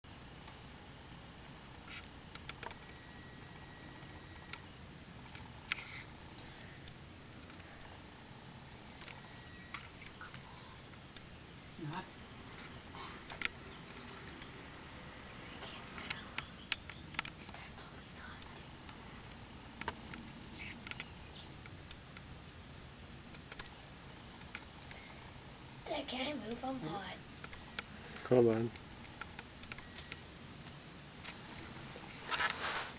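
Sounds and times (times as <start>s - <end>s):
insect chirping: 0.1s - 32.9s.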